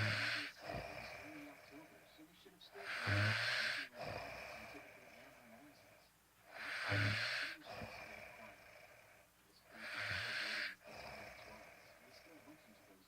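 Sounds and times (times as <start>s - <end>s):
person snoring: 0.0s - 2.0s, 2.8s - 5.9s, 6.5s - 9.1s, 9.7s - 13.0s.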